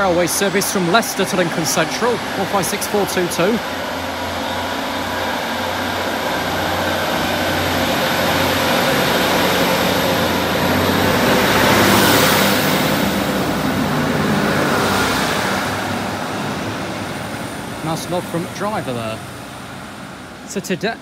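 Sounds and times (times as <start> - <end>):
diesel engine drone: 0.0 - 21.0
wheel-on-rail noise: 0.0 - 21.0.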